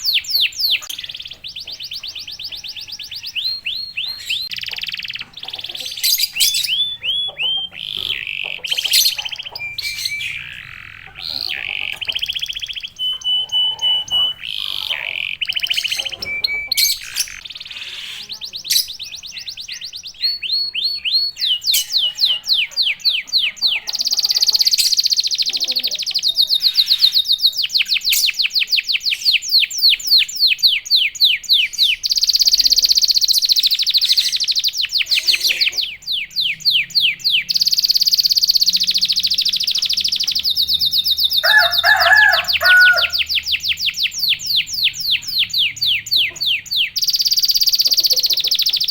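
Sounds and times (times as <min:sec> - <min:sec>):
canary singing: 0:00.0 - 0:48.9.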